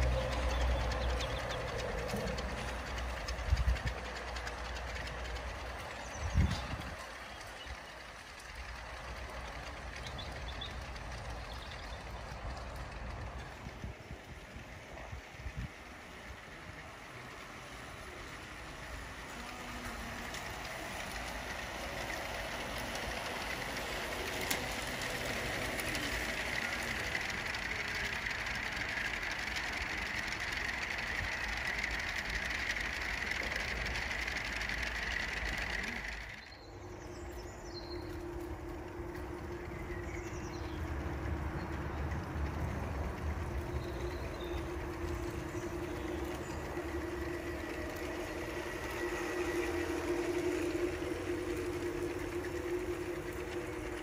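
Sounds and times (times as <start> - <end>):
low held hum: 0.0 - 54.0
model train running on track: 0.0 - 54.0.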